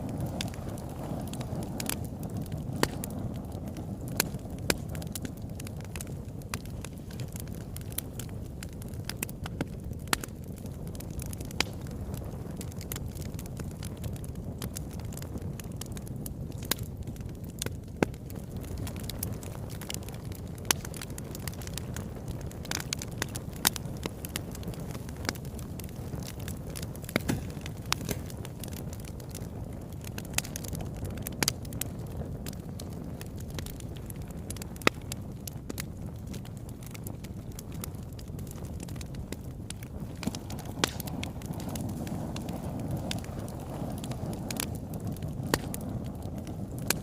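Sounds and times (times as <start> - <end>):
wood fire crackling in fireplace: 0.0 - 47.0.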